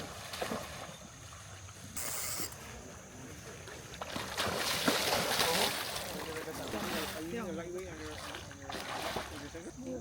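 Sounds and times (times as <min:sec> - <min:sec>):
flowing river water: 0:00.0 - 0:10.0.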